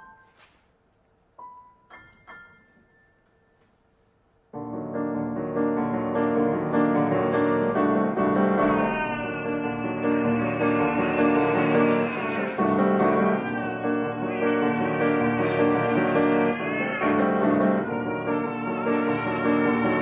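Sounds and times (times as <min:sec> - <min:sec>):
piano notes: 0:01.4 - 0:20.0.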